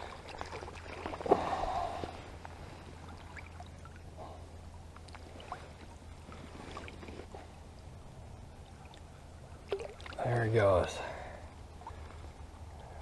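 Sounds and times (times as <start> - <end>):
water sloshing and splashing: 0.0 - 10.6, 11.6 - 12.8
water trickling: 0.0 - 11.1.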